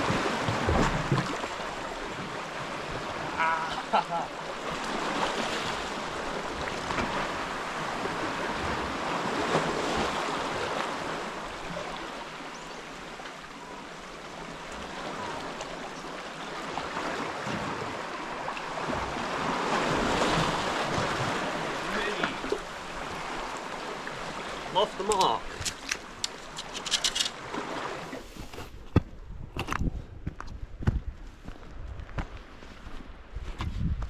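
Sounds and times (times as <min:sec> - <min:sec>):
waves washing over rocks: 0:00.0 - 0:28.3.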